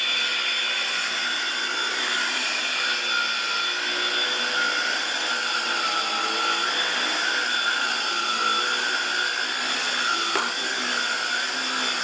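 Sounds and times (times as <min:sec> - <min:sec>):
stick vacuum running: 0:00.0 - 0:12.0.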